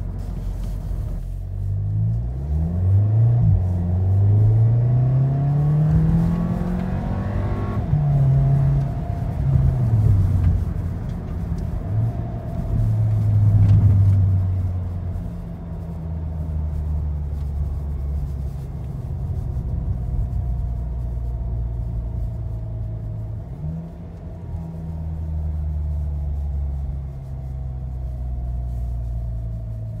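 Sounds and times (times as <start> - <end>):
car exhaust drone: 0.0 - 30.0.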